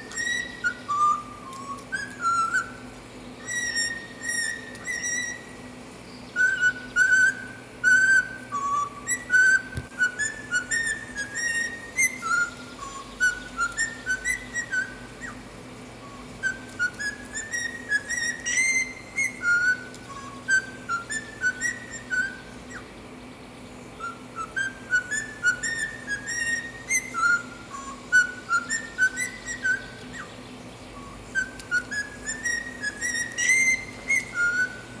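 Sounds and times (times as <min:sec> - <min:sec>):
cockatiel whistling a melody: 0:00.0 - 0:22.9, 0:24.0 - 0:35.0.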